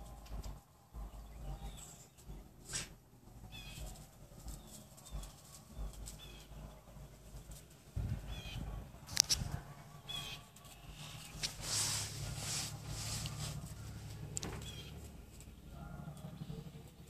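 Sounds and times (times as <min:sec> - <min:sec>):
low rumble on microphone: 0:00.0 - 0:17.0
small birds chirping: 0:00.0 - 0:17.0.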